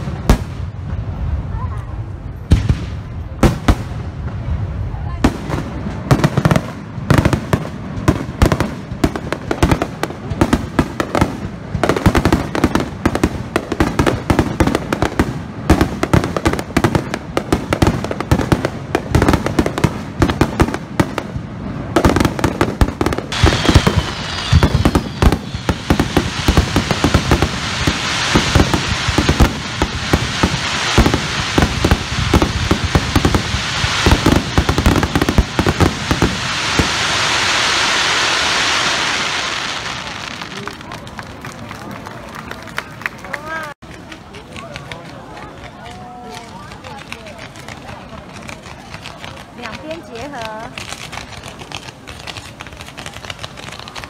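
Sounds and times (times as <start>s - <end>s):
firework bangs: 0.0s - 41.4s, 46.3s - 54.0s
continuous hiss: 0.0s - 54.0s.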